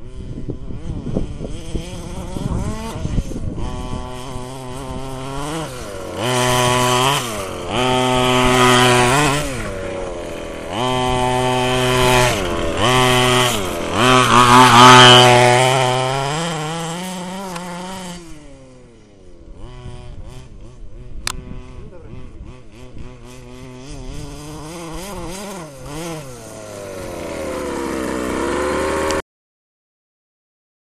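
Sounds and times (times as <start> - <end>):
small two-stroke engine revving: 0.0 - 29.2.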